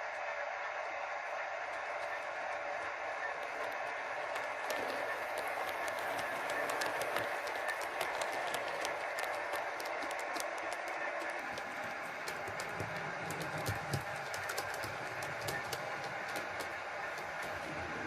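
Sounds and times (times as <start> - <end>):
model train clicking on track: 0.0 - 18.0.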